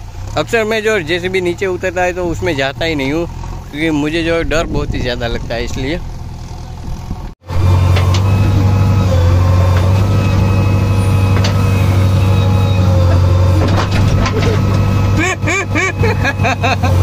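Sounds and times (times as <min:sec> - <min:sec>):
diesel engine running close: 0:00.0 - 0:17.0.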